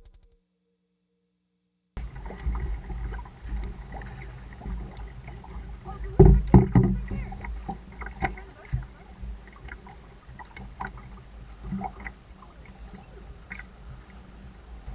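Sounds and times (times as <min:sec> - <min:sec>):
paddle splashing and knocking hull: 0:02.0 - 0:14.9.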